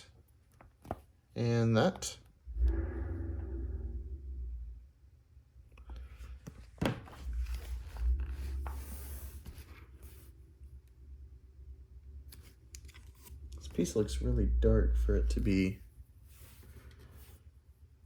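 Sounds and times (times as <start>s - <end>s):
low hum: 2.4s - 18.0s.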